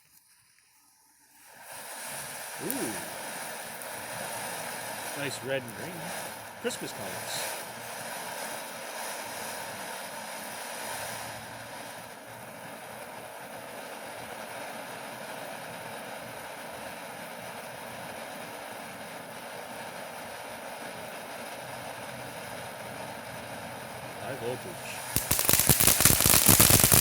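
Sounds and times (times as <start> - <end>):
firework fountain hissing sparks: 0.0 - 27.0.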